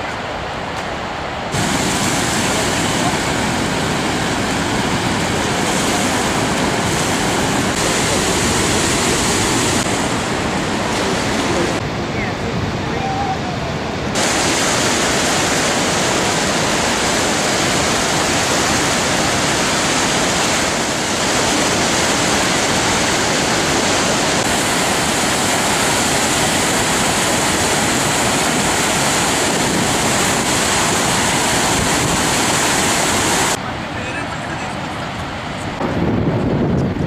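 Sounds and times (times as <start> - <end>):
rushing white water: 0.0 - 37.0.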